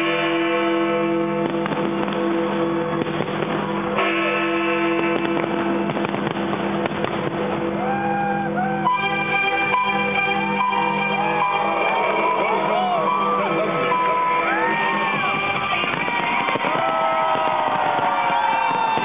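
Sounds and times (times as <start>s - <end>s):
fireworks crackling and banging: 0.0s - 8.4s, 9.0s - 19.0s.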